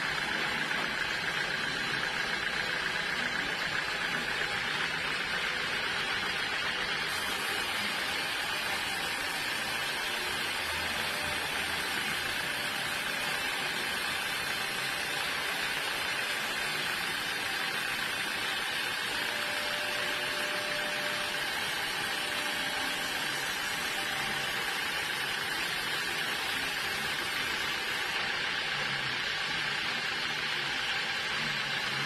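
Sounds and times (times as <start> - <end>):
sawmill saw running: 0.0 - 32.0.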